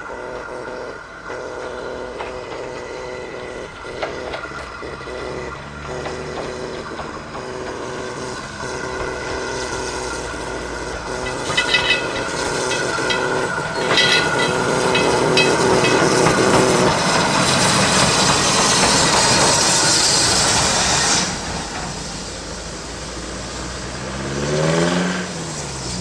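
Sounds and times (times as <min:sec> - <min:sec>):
train passing: 0:00.0 - 0:26.0
train wheels clicking: 0:00.0 - 0:26.0.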